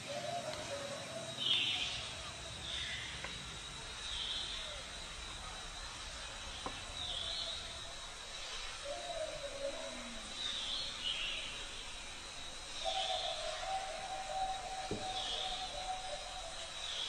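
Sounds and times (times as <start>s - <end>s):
high thin insect-like tone: 0.5s - 17.0s.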